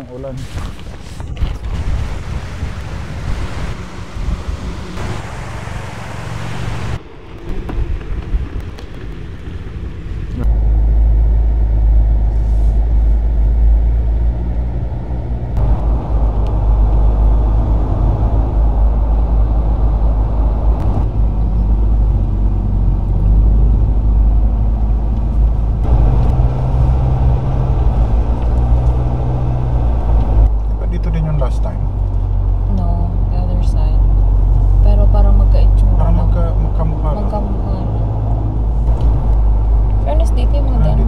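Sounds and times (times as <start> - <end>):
pickup engine and road rumble: 0.0 - 41.0.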